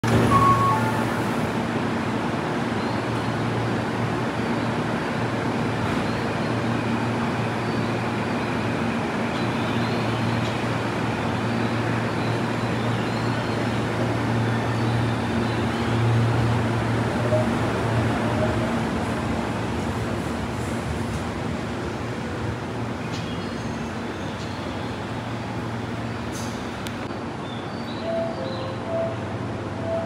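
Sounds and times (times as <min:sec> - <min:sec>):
train wheels rumbling on rails: 0:00.0 - 0:27.4
low train hum: 0:00.0 - 0:30.0.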